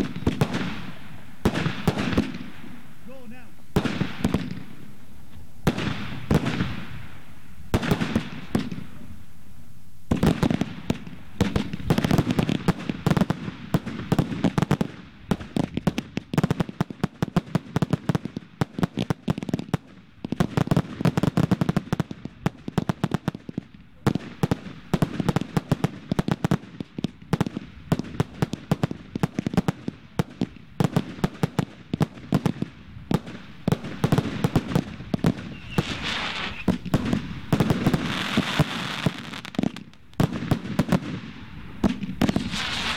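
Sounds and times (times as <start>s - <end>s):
firework bangs echoing: 0.0s - 9.3s, 10.1s - 42.9s
rapid firework barrage crackling: 0.0s - 42.9s.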